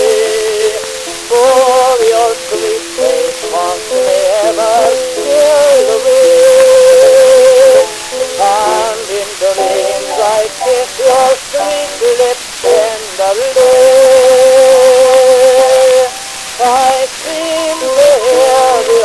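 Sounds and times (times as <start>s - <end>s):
record surface hiss: 0.0s - 19.0s
tenor singing with accompaniment: 0.0s - 19.0s.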